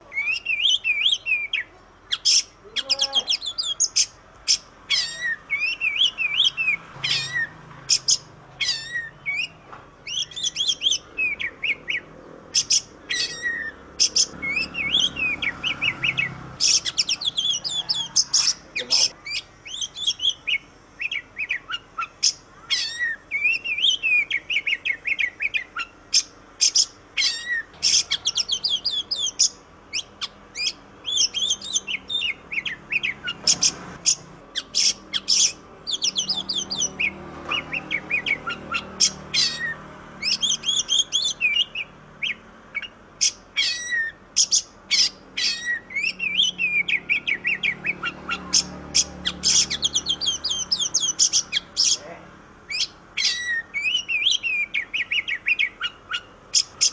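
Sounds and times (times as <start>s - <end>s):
bird singing whistles and trills: 0.0s - 52.0s, 52.7s - 56.9s.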